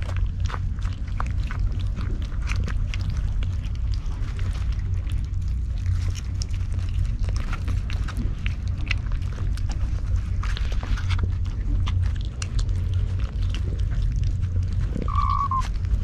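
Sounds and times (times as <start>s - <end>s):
cats chewing and licking: 0.0s - 16.0s
low rumble: 0.0s - 16.0s.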